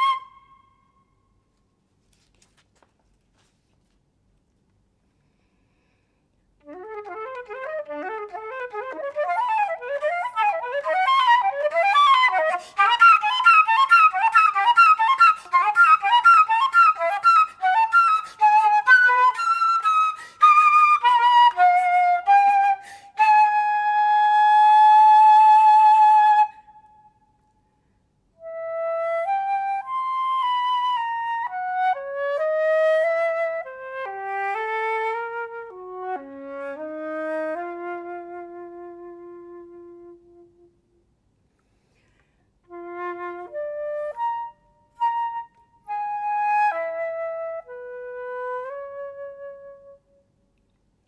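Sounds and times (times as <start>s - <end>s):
solo flute playing: 0.0s - 1.3s, 6.6s - 27.4s, 28.4s - 40.9s, 42.7s - 50.3s.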